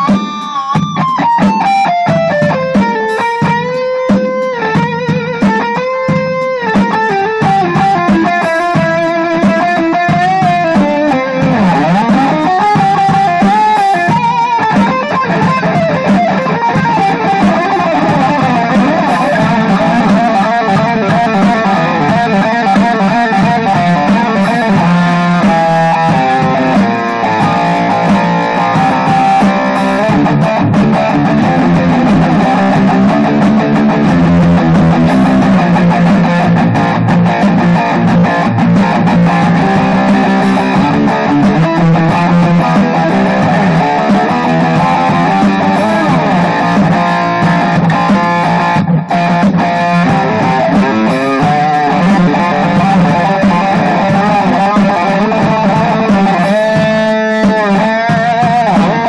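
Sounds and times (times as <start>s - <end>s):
electric guitar hard rock jam: 0.0s - 59.0s.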